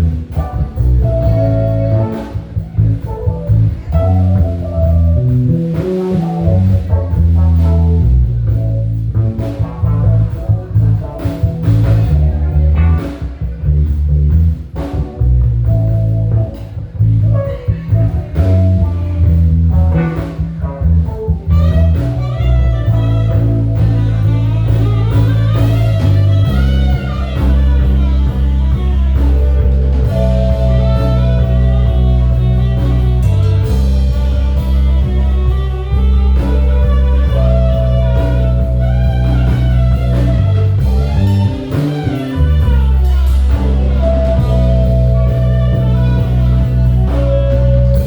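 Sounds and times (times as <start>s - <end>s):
bass guitar: 0.0s - 48.0s
drum kit: 0.0s - 48.0s
electric guitar lead: 0.0s - 48.0s.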